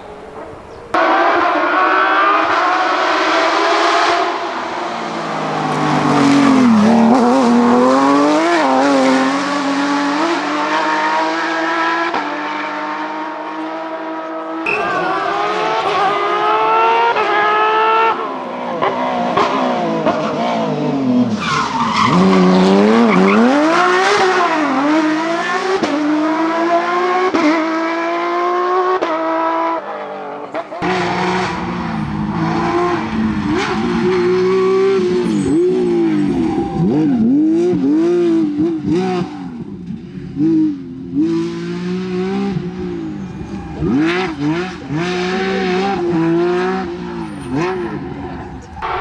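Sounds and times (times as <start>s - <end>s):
rally car engine accelerating: 0.0s - 49.0s.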